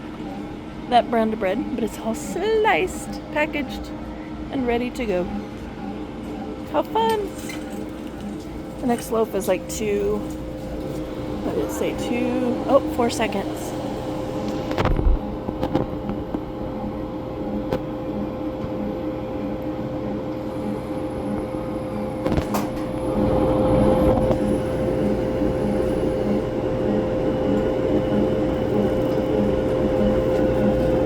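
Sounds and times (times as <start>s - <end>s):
machine motor hum with pulsing: 0.0s - 31.0s.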